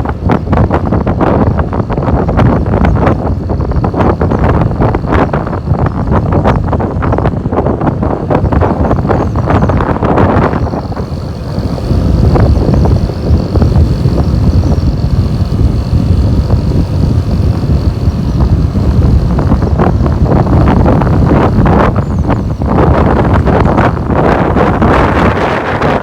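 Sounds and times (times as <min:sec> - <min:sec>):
motorcycle engine: 0:00.0 - 0:26.0
road noise: 0:00.0 - 0:26.0
wind buffeting microphone: 0:00.0 - 0:26.0.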